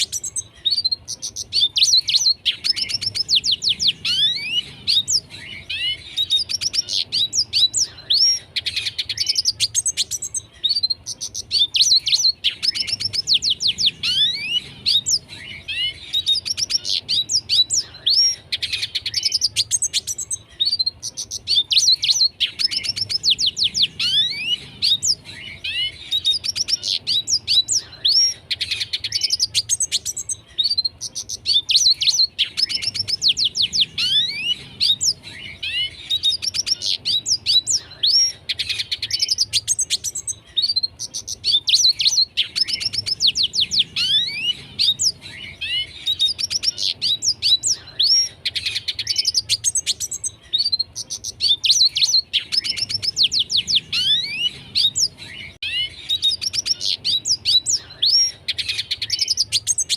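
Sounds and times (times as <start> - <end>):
bird twittering and whistling: 0.0 - 59.9.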